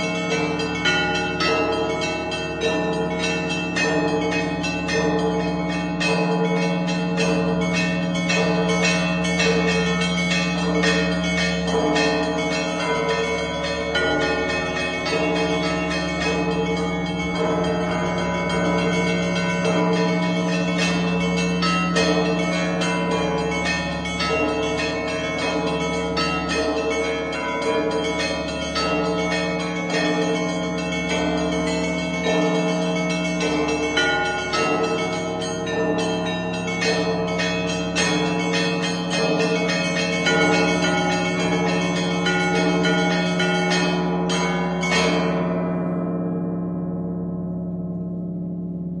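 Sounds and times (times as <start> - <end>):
deep bell tolling: 0.0 - 49.0
small church bells pattern: 0.0 - 49.0.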